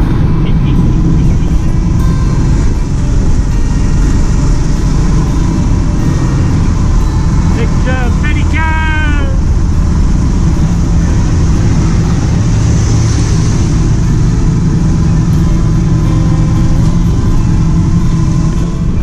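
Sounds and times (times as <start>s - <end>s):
motorcycle engine drone: 0.0s - 19.0s
road noise: 0.0s - 19.0s.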